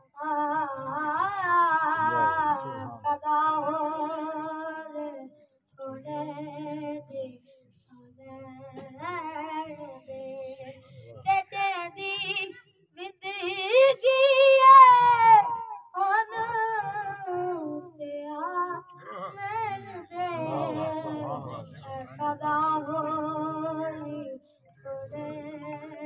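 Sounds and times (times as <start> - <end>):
boy singing unaccompanied: 0.0 - 26.0.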